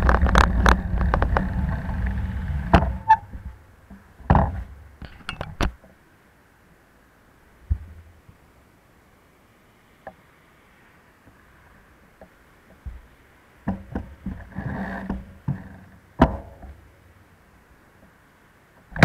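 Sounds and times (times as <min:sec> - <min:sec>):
bicycle rolling with wind: 0:00.0 - 0:06.0, 0:09.7 - 0:19.0.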